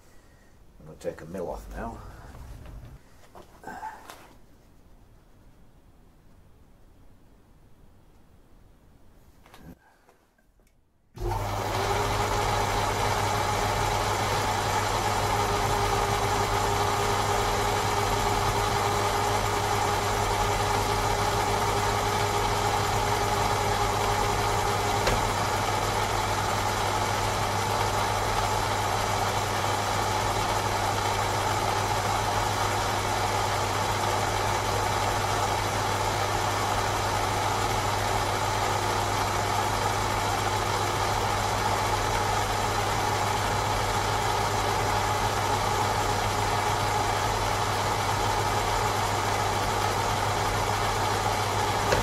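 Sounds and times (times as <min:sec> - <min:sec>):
lathe motor hum: 0:01.6 - 0:03.0, 0:11.2 - 0:52.0.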